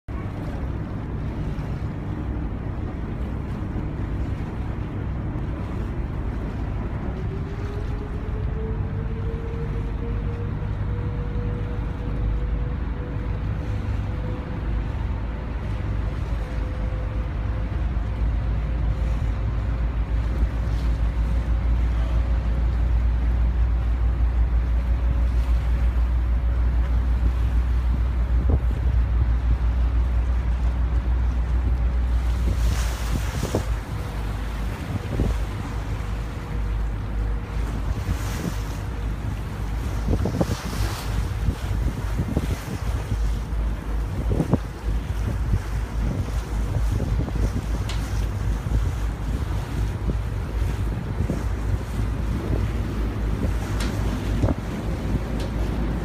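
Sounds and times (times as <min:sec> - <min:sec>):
motorboat engine rumble: 0:00.0 - 0:56.0
water noise: 0:00.0 - 0:56.0
wind noise: 0:00.1 - 0:56.0.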